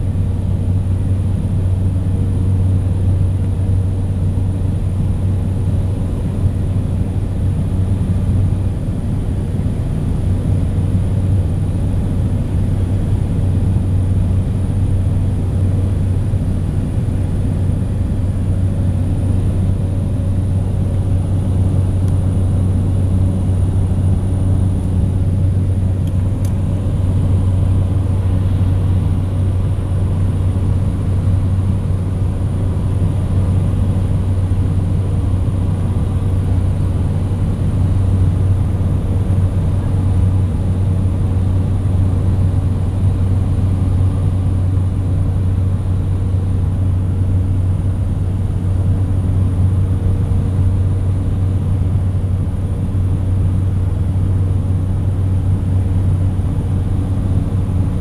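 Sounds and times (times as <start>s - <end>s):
propeller aircraft engine drone: 0.0s - 58.0s.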